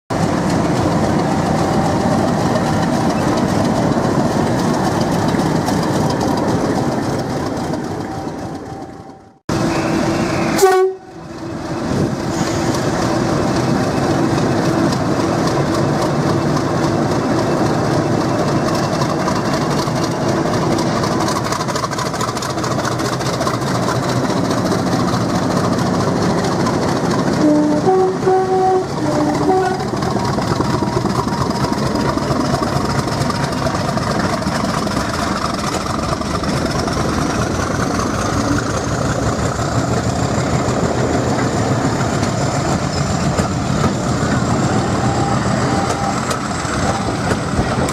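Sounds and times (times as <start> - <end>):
diesel locomotive engine running: 0.1 - 47.9.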